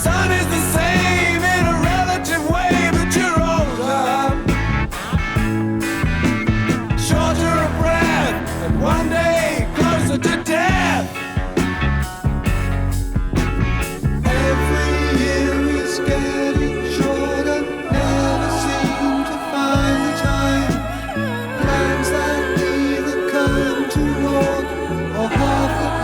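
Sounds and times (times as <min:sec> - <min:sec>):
rock song with male singer: 0:00.0 - 0:26.0.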